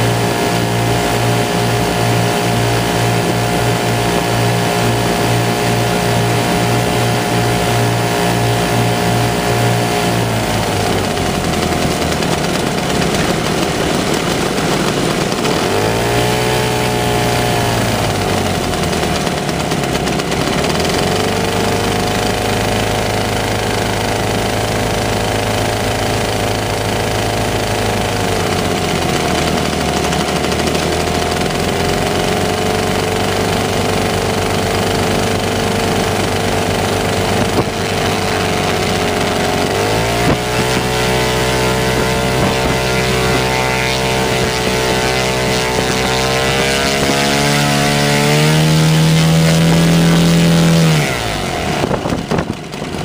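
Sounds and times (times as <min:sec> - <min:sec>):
two-stroke aircraft engines running: 0:00.0 - 0:53.0.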